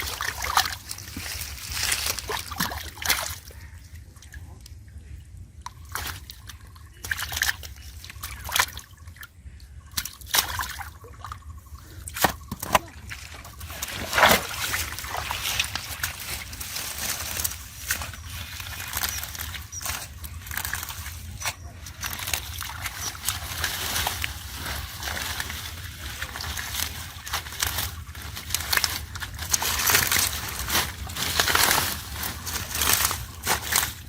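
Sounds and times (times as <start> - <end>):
river water sloshing and splashing: 0.0 - 4.4, 5.6 - 34.0.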